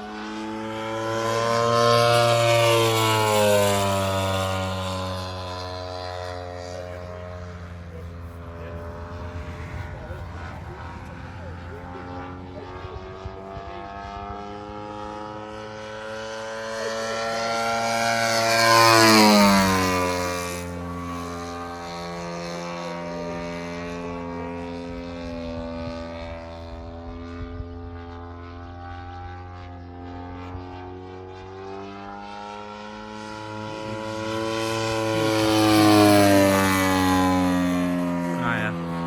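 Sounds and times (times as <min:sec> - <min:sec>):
model plane engine droning: 0:00.0 - 0:39.0.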